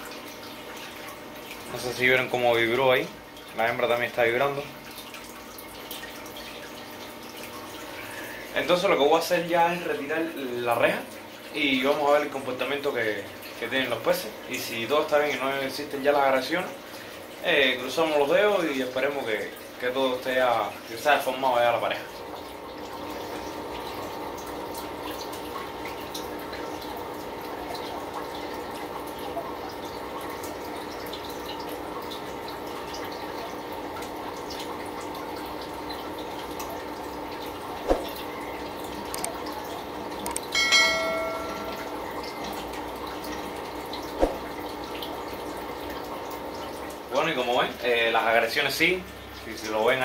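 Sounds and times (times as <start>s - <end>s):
aquarium filter hum: 0.0s - 50.0s
water trickle: 0.0s - 50.0s.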